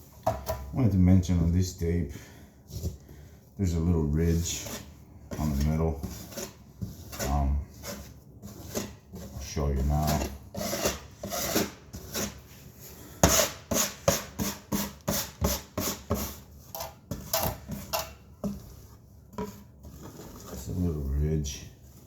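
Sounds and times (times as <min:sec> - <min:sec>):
tape scraping and rubbing on wall: 0:04.3 - 0:22.0.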